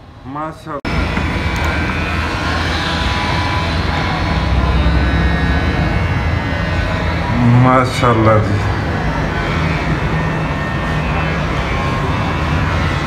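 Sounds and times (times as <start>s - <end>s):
faint whining tones: 0.0s - 13.0s
machine rumble: 0.8s - 13.0s.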